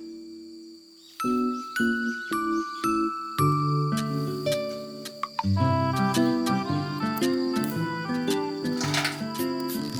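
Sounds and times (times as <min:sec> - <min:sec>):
gentle plucked instrumental music: 0:01.2 - 0:09.9.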